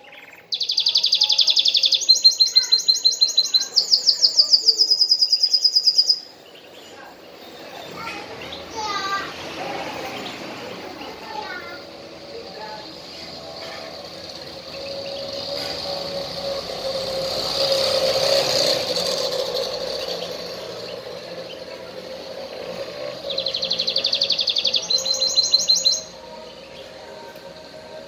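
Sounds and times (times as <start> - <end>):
canary trilling: 0.0 - 28.0
rush of background noise: 0.0 - 28.0.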